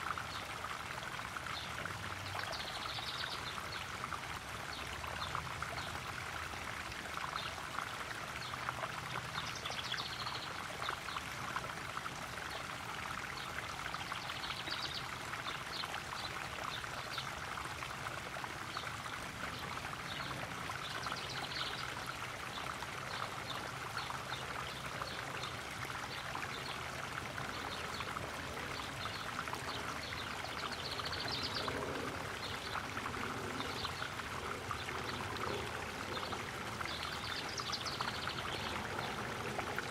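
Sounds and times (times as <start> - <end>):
pond waterfall splashing: 0.0 - 39.9.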